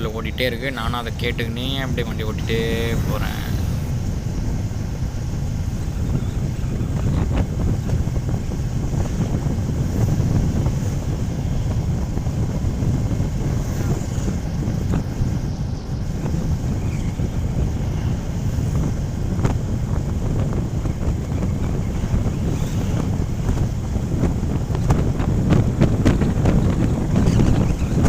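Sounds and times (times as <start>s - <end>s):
road noise: 0.0s - 28.0s
wind rushing over microphone: 0.0s - 28.0s.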